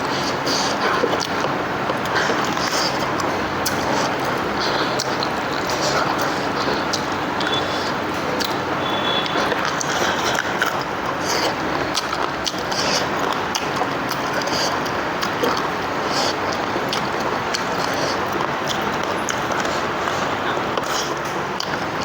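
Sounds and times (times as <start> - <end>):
wet chewing and lip smacks: 0.0 - 21.9
steady background noise: 0.0 - 22.0.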